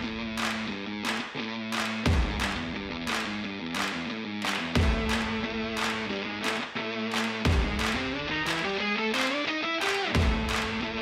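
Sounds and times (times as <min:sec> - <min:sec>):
music with drum beat and guitar: 0:00.0 - 0:11.0.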